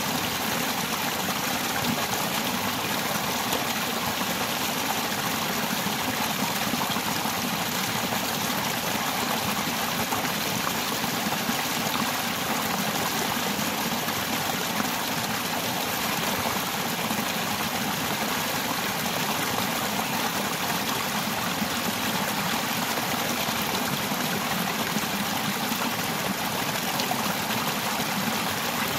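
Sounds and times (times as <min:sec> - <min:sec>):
stream splashing over boulders: 0:00.0 - 0:28.9.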